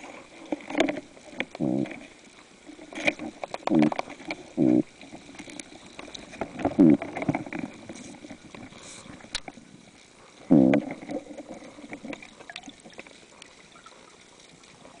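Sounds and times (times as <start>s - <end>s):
underwater clicks and crackle: 0.0s - 15.0s.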